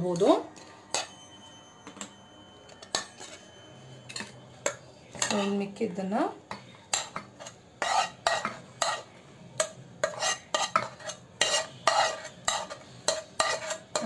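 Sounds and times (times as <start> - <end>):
metal spoon scraping a pan: 0.1 - 1.2, 2.7 - 5.8, 6.5 - 14.0.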